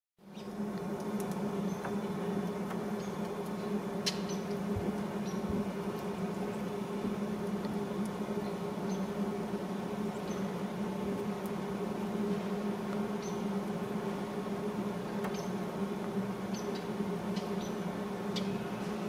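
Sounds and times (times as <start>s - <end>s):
low buzzing hum: 0.2s - 19.0s.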